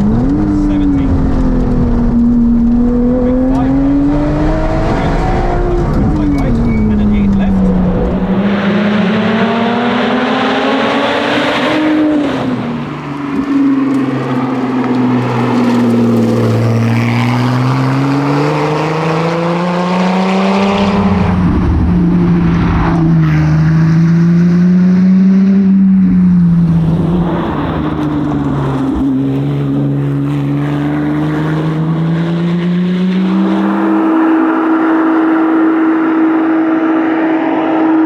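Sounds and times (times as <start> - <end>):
car engine running under load: 0.0 - 38.0.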